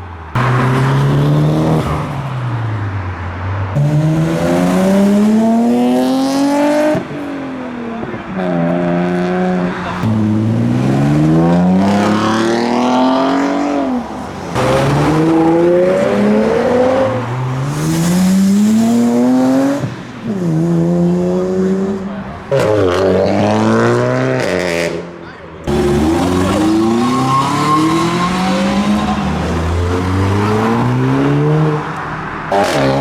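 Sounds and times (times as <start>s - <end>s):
car engines accelerating hard: 0.0s - 33.0s.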